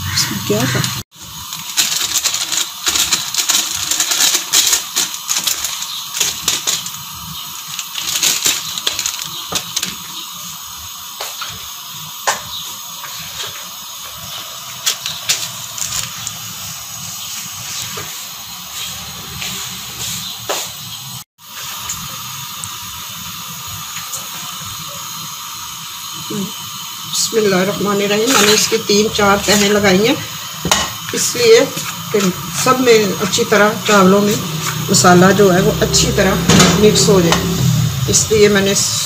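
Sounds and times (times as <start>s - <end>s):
pot steaming with crackles: 0.0s - 39.0s.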